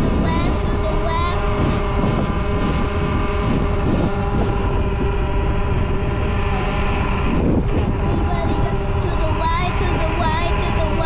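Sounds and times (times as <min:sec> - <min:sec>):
scooter engine whine: 0:00.0 - 0:11.0
wind and road noise: 0:00.0 - 0:11.0.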